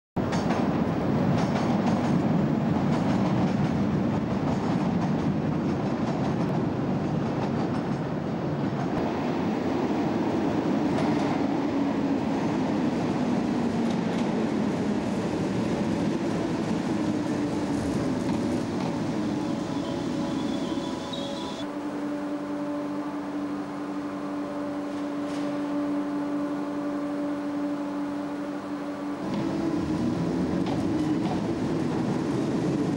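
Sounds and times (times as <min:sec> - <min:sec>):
train rumbling on rails: 0:00.2 - 0:32.9.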